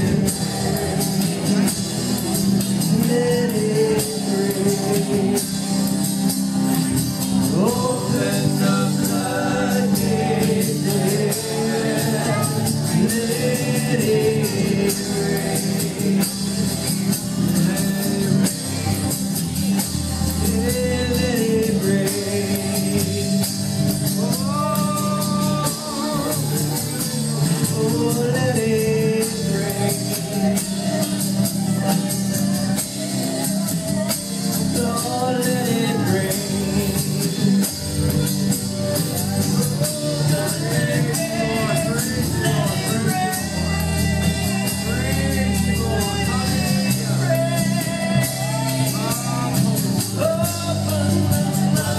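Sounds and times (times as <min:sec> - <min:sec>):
voices singing: 0:00.0 - 0:51.9
worship band playing: 0:00.0 - 0:51.9.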